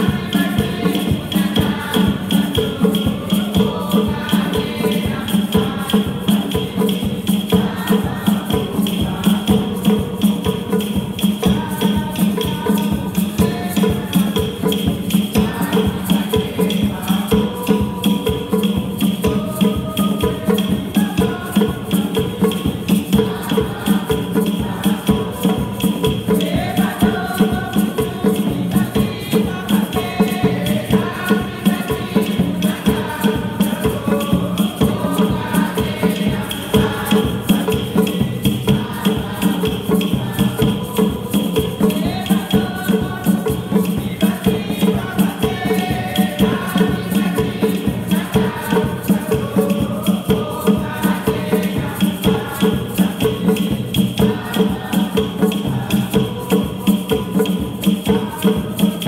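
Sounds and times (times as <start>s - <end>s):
choir singing a hymn: 0.0s - 59.0s
shaker and hand percussion: 0.0s - 59.0s.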